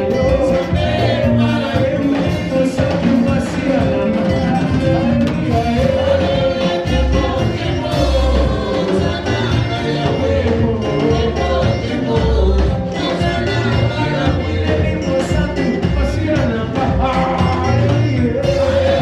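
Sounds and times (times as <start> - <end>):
gospel band playing: 0.0 - 19.0
several singers: 0.0 - 19.0.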